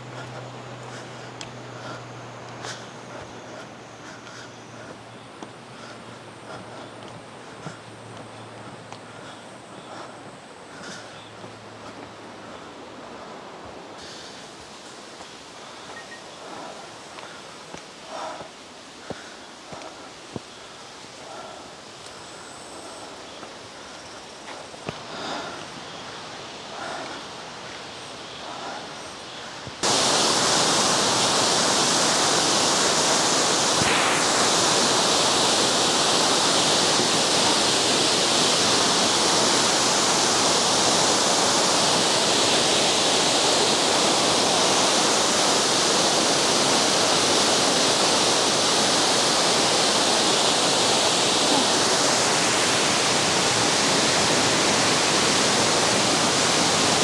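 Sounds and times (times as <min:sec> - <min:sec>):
trail ambience: 0:00.0 - 0:57.0
waterfall rushing: 0:00.0 - 0:57.0.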